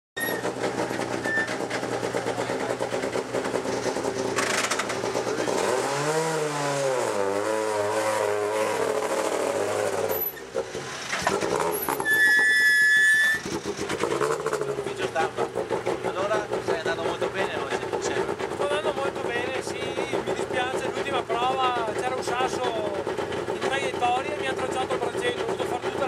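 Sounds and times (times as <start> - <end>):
rally car engine: 0.2 - 26.0.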